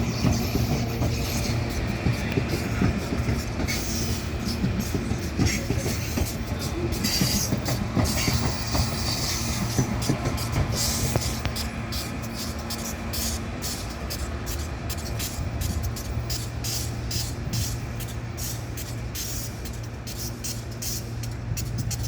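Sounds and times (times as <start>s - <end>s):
electric train rumbling: 0.0s - 22.0s.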